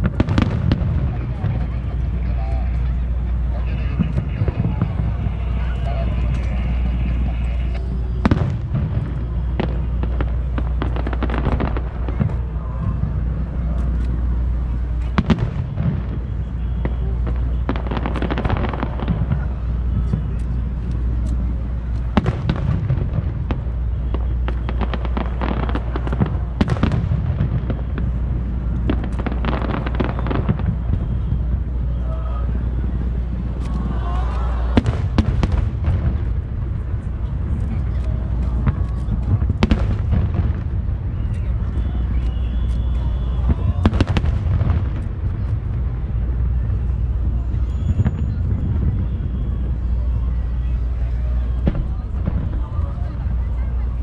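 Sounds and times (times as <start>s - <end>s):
fireworks bangs: 0.0s - 54.0s
fireworks pops and crackles: 0.0s - 54.0s
low rumble: 0.0s - 54.0s.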